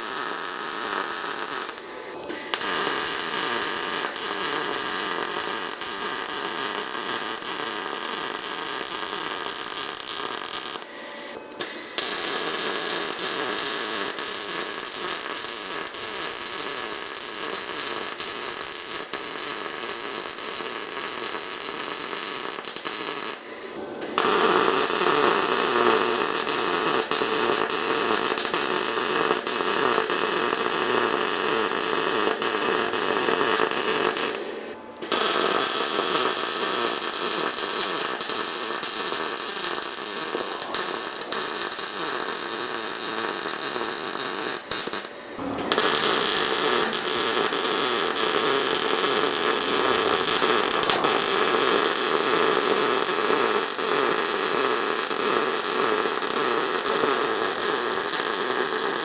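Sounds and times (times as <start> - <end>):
crackling welding arc: 0.0 - 59.0.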